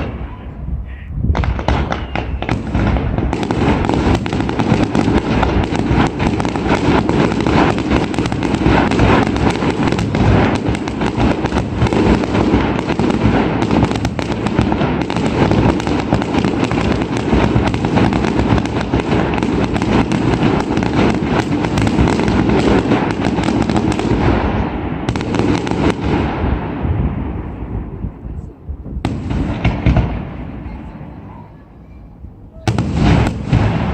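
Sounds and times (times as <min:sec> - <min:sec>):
firework and firecracker bangs: 0:00.0 - 0:00.4, 0:01.3 - 0:33.9.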